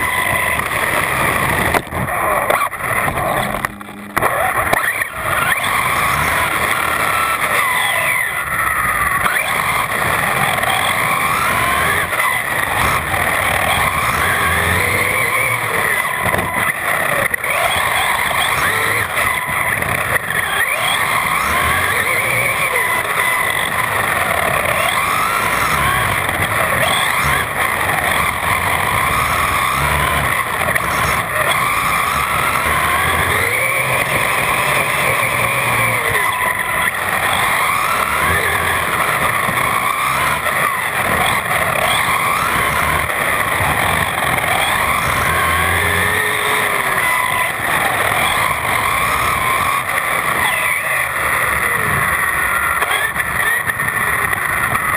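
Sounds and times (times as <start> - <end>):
electric rc car motor whine: 0.0 - 54.9
tyre and road noise: 0.0 - 54.9.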